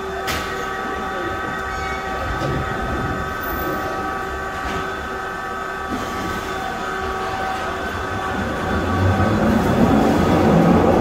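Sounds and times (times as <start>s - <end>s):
train electrical whine: 0.0s - 11.0s.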